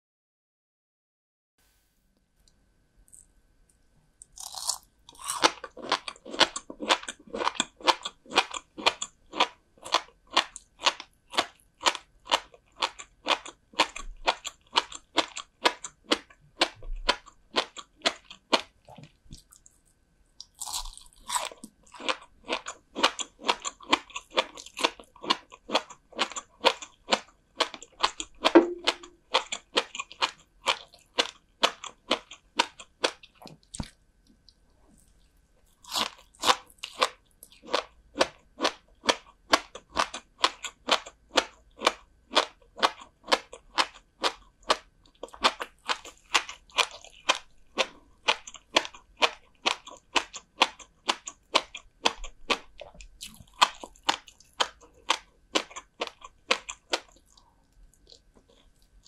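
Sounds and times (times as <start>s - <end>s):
crisp crunching chews: 4.2s - 59.0s.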